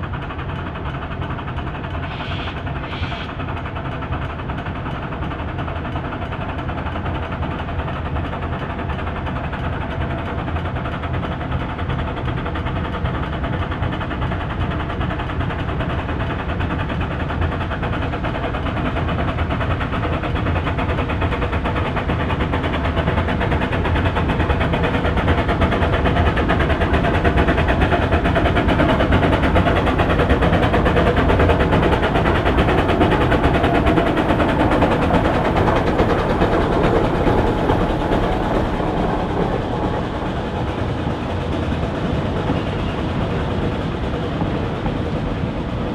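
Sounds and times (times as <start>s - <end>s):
steam train running rumble: 0.0s - 45.9s.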